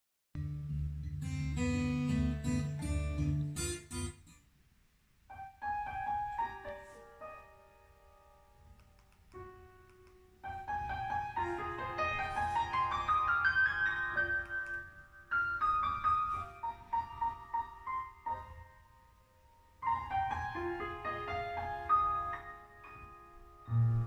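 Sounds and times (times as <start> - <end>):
piano music through loudspeakers: 0.4 - 4.2, 5.3 - 24.0.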